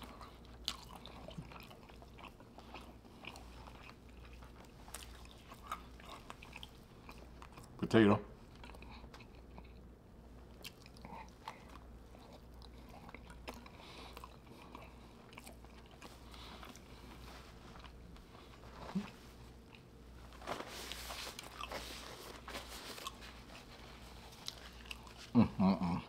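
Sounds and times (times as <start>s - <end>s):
person chewing food: 0.0s - 7.8s, 8.4s - 26.0s.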